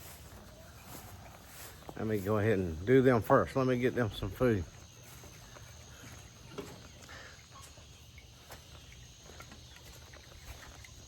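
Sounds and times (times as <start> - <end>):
high insect drone: 0.9 - 11.0.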